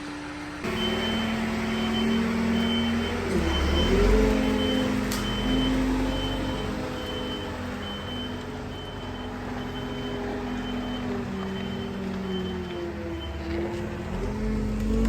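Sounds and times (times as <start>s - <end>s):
diesel engine running: 0.0s - 15.0s
reversing alarm beeping: 0.6s - 13.8s.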